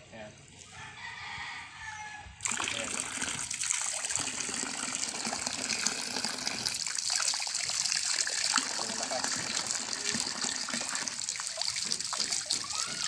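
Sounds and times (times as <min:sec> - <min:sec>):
water gushing from pipe: 0:02.4 - 0:13.0
water splashing on ground: 0:02.4 - 0:13.0.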